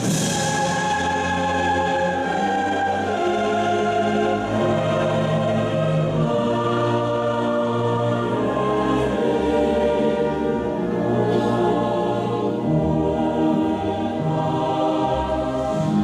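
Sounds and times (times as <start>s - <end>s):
crowd singing together slowly: 0.0s - 16.0s.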